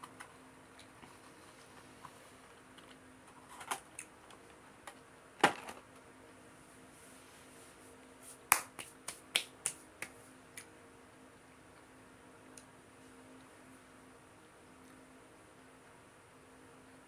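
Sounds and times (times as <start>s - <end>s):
room hum: 0.0s - 17.0s.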